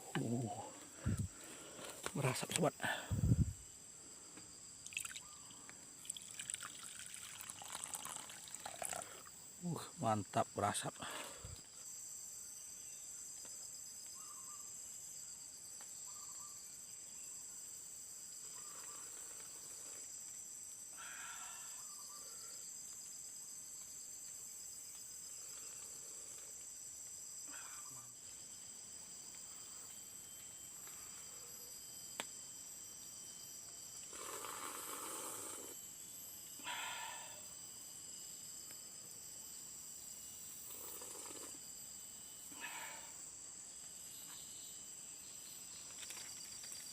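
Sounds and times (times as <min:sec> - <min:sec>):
crickets chorus: 0:00.0 - 0:46.9.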